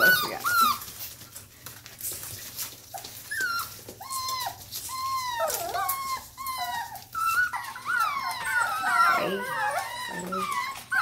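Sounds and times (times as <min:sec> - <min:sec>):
puppies whining: 0:00.0 - 0:11.0.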